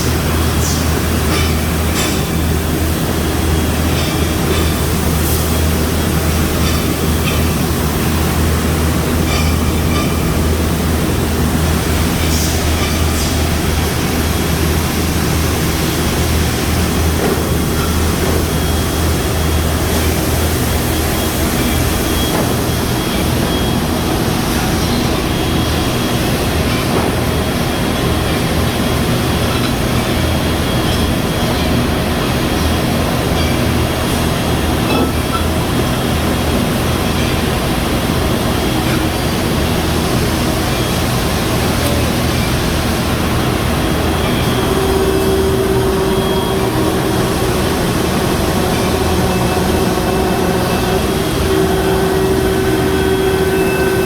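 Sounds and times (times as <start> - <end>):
factory machinery running: 0.0 - 54.0.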